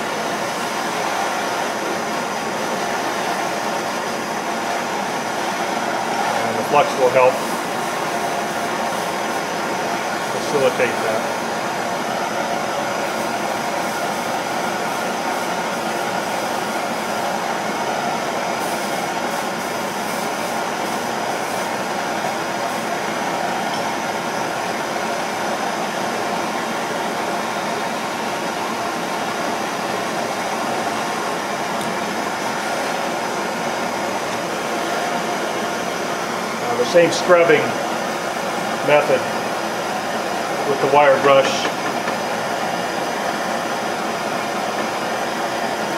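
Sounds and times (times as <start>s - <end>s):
gas torch hissing: 0.0s - 17.4s, 18.6s - 24.4s, 29.6s - 45.9s.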